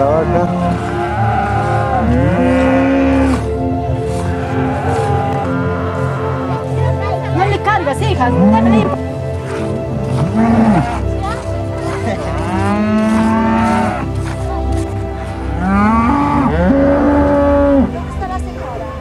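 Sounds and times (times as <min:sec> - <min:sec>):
cattle mooing: 0:00.0 - 0:07.0, 0:08.2 - 0:18.0.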